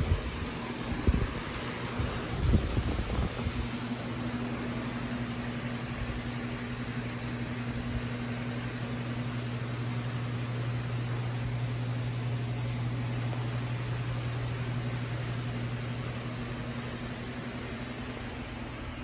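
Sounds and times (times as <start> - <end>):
electric fans whooshing: 0.0 - 19.0
low even hum: 0.0 - 19.0.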